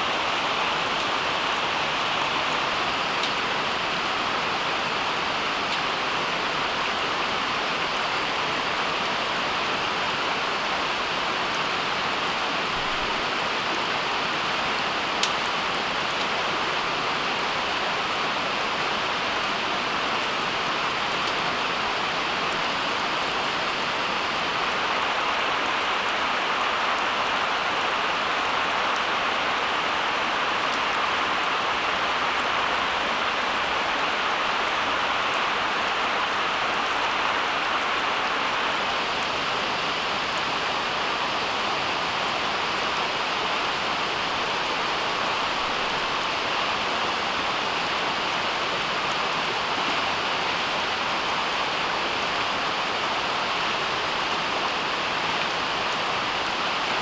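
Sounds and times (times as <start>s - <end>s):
hiss of running water: 0.0s - 57.0s.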